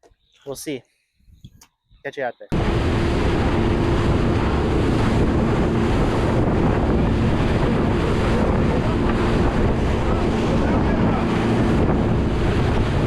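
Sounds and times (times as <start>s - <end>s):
boat engine humming: 2.5s - 13.0s
water noise: 2.5s - 13.0s
wind buffeting microphone: 2.5s - 13.0s.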